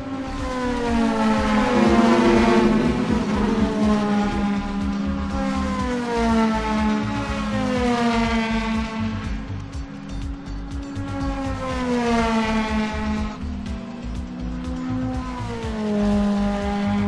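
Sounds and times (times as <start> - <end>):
cartoon race car engine: 0.0 - 9.6, 11.0 - 17.0
background music: 0.0 - 17.0.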